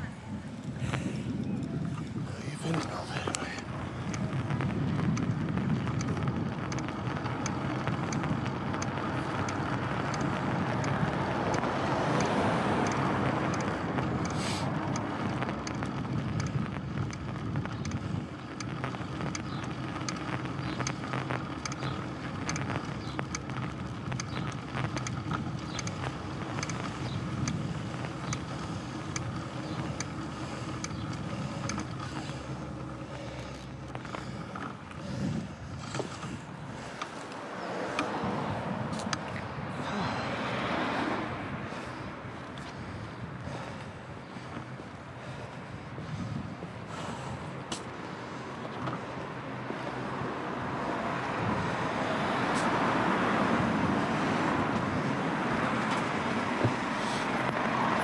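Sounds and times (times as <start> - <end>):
wind noise on microphone: 0.0 - 37.0, 37.9 - 58.0
bicycle tyre noise: 0.0 - 58.0.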